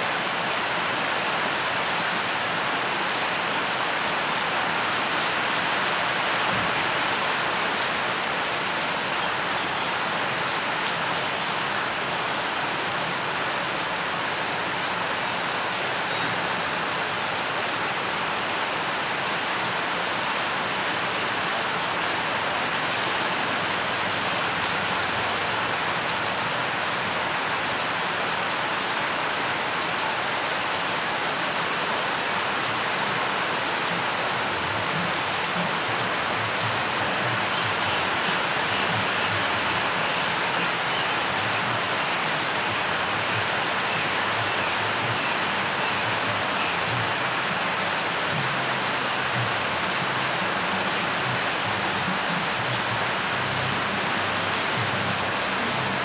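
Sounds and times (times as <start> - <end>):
heavy rain on flooded road: 0.0 - 56.0.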